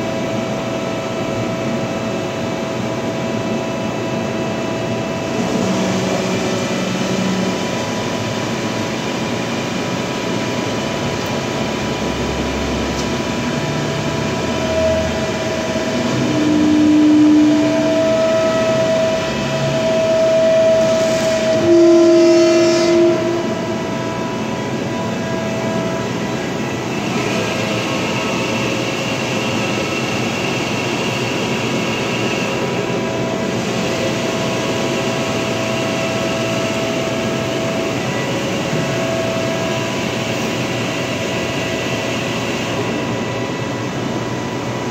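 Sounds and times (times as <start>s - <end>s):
higher machine whine: 0.0s - 44.9s
machine hum with whining tones: 0.0s - 44.9s.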